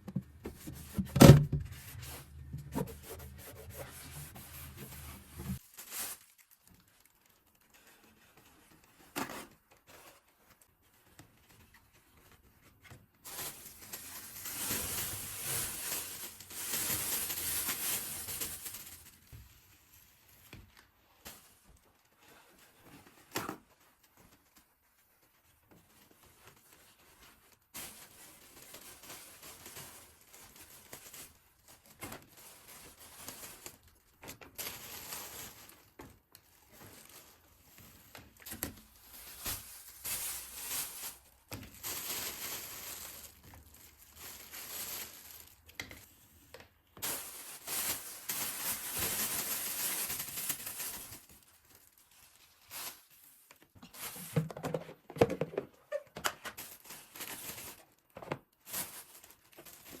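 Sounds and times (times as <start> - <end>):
packaging rustling and crinkling: 0.0 - 46.2, 47.0 - 60.0.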